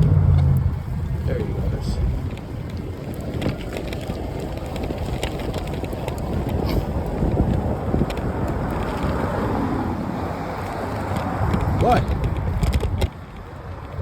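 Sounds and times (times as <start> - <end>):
low rumble of riding: 0.0 - 14.0
wind buffeting microphone: 0.0 - 14.0.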